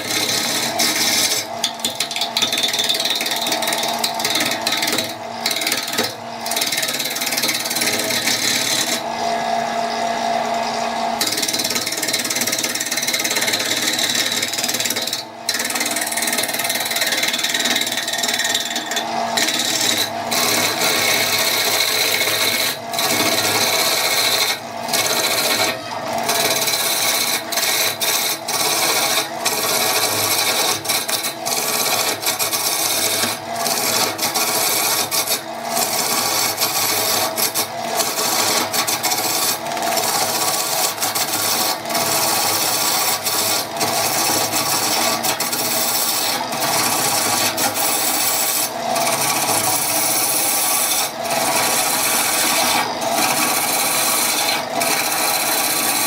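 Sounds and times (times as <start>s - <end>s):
power tool rasping wood: 0.0s - 56.0s.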